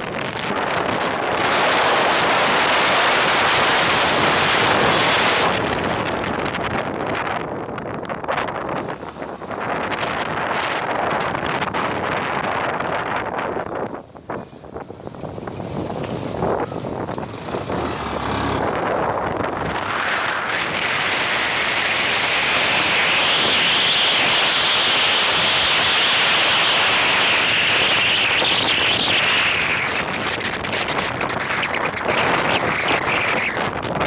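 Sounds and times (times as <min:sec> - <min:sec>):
motorcycle running: 0:00.0 - 0:34.0
wind rushing over microphone: 0:00.0 - 0:34.0.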